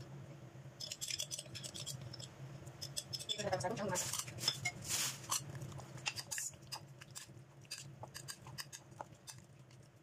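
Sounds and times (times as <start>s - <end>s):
chicken mixed in a bowl: 0.8s - 10.0s.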